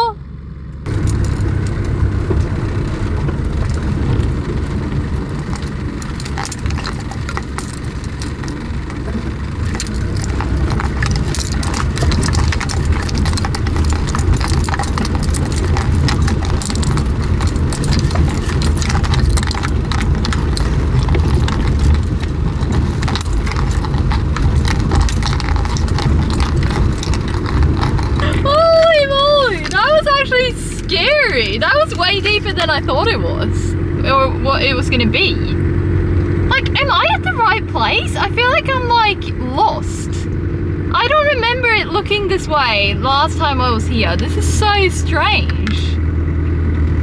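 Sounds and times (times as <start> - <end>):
truck engine rumbling: 0.0 - 47.0
small clicks and rattles: 0.8 - 47.0.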